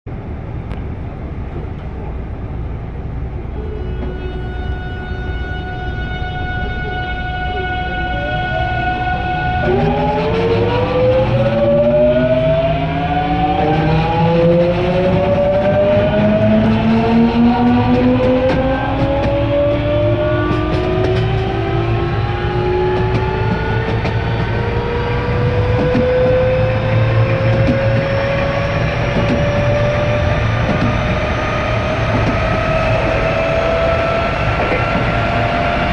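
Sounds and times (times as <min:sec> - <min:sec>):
train running gear rumble: 0:00.1 - 0:35.9
inverter whining tones: 0:03.6 - 0:35.9.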